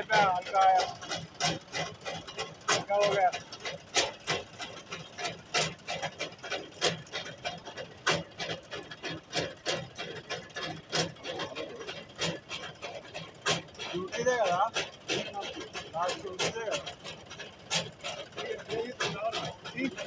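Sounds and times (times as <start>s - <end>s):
mechanical knocks and clatter: 0.0s - 20.0s.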